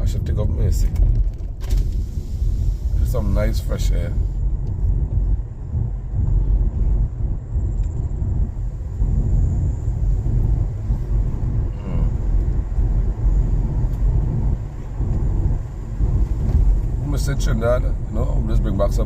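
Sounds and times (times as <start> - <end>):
car road and wind rumble: 0.0 - 19.0.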